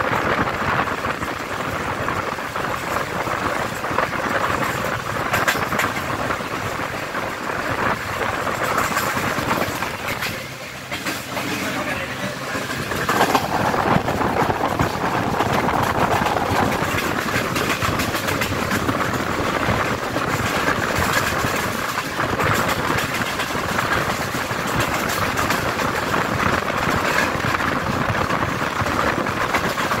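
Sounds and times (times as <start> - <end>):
train coaches rumbling on track: 0.0 - 30.0.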